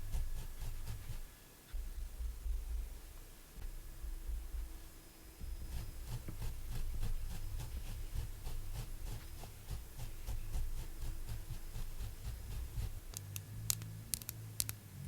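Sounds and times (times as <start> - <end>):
low handling rumble: 0.0 - 15.0.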